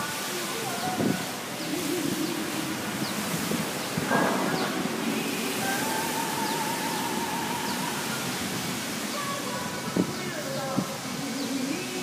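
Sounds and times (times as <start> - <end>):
faint music: 0.0 - 12.0
fountain water spraying: 0.0 - 12.0.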